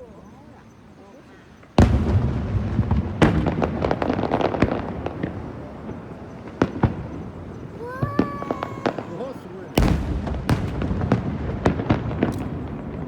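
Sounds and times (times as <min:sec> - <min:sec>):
crackling firework pops: 0:01.6 - 0:07.3, 0:07.9 - 0:13.0
firework bangs: 0:01.8 - 0:13.0.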